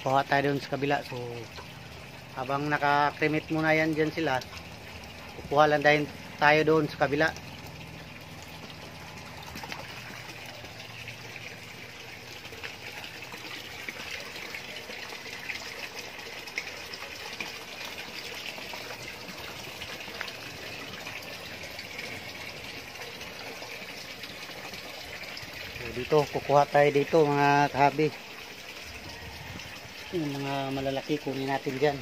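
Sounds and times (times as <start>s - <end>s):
water running and splashing: 0.0s - 32.0s.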